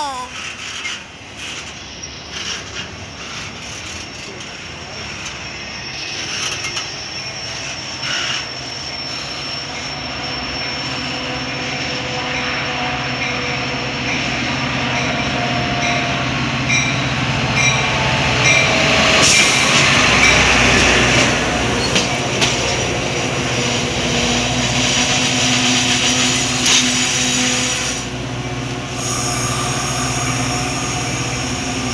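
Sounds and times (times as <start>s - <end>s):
train wheels rushing on rails: 0.4s - 31.9s
train engine hum: 0.9s - 31.9s.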